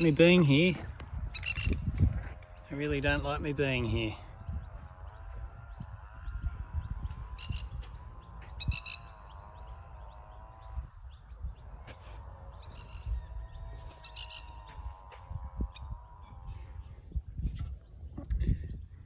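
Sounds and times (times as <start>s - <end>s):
birds rattling alarm calls: 0.0s - 18.0s
low rumble: 0.0s - 19.0s.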